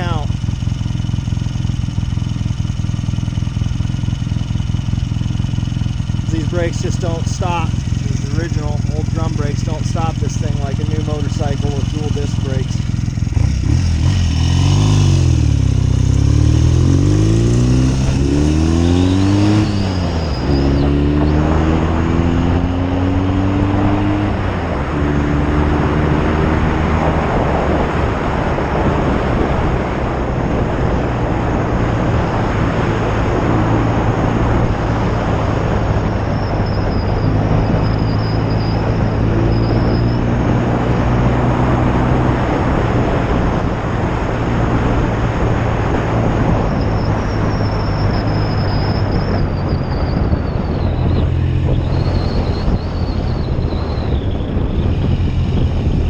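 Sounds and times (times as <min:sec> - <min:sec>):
heavy wind noise: 0:00.0 - 0:56.0
motorcycle engine accelerating: 0:00.0 - 0:56.0.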